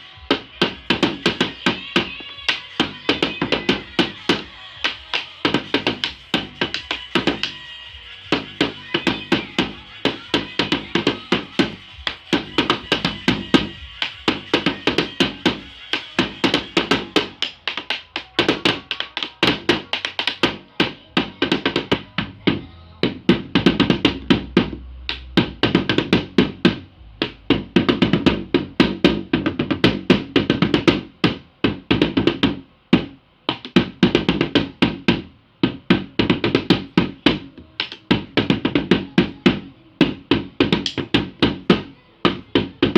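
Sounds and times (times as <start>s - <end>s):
drums struck fast: 0.0s - 42.9s.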